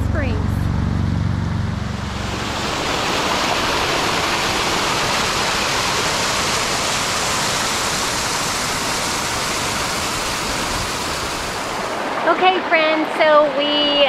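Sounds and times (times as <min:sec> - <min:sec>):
water cascading over stones: 0:02.0 - 0:14.0.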